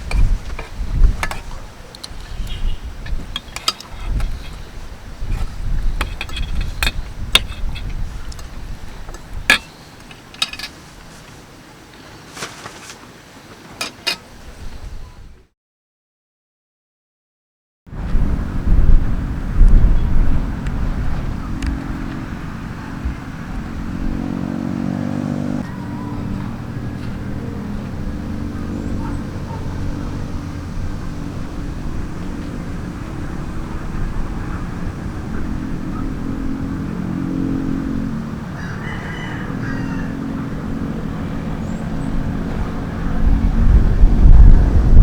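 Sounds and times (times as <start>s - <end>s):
vehicles passing on highway: 0.0s - 11.9s, 17.9s - 45.0s
low wind rumble: 0.0s - 12.2s, 17.9s - 45.0s.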